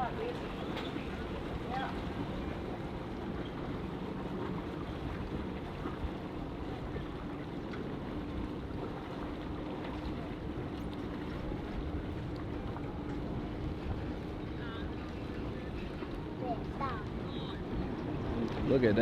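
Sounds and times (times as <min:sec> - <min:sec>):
boat motor running: 0:00.0 - 0:19.0.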